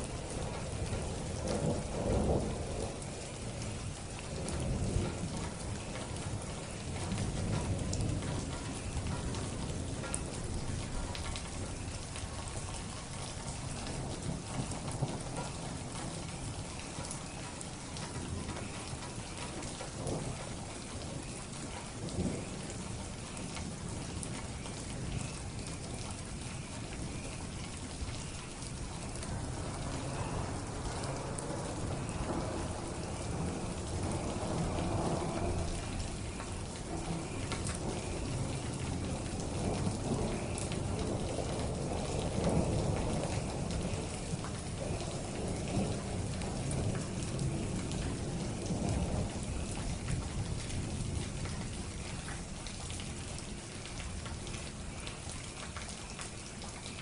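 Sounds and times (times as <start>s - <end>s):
thunder rumbling: 0.0s - 55.3s
heavy rain falling: 0.0s - 57.0s.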